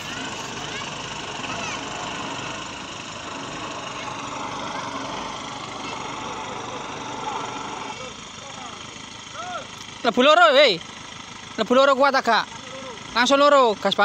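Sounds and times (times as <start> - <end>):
jeep engine running: 0.0 - 14.0.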